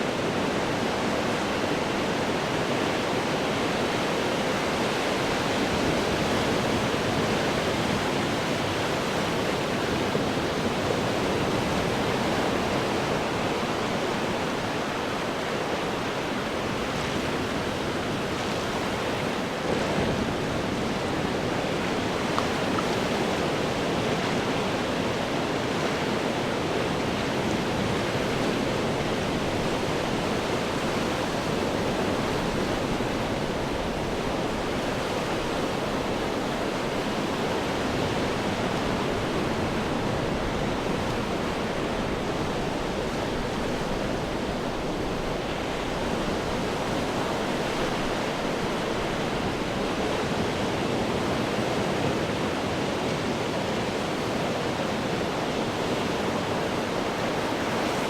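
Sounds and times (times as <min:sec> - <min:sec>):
ocean surf breaking on rocks: 0:00.1 - 0:58.0.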